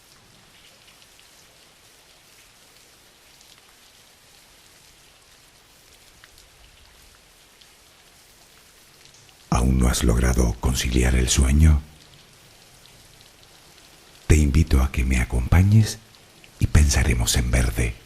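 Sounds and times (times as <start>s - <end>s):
rain drops pattering: 0.0s - 18.0s.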